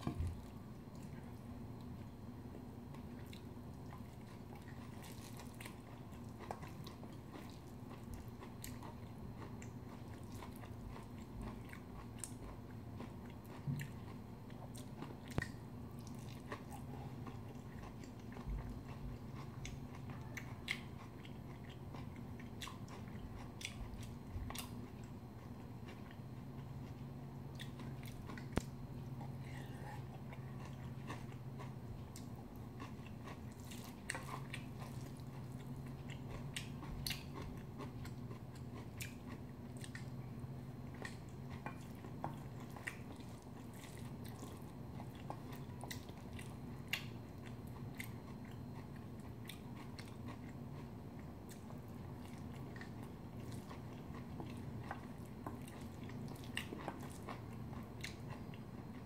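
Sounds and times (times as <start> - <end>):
faint low hum: 0.0 - 59.0
person chewing: 2.9 - 59.0.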